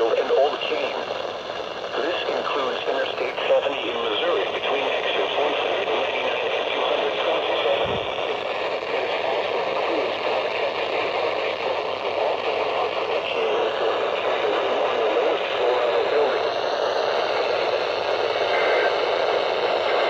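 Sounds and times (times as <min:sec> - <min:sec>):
radio voice with static: 0:00.0 - 0:20.0.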